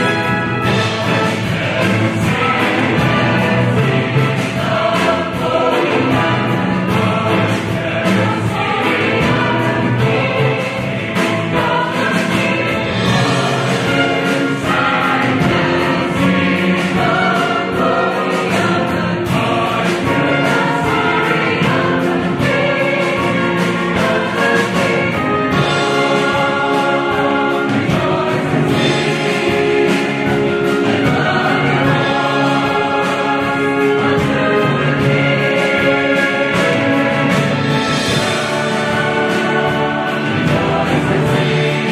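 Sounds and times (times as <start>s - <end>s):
mixed choir singing: 0.0s - 41.9s.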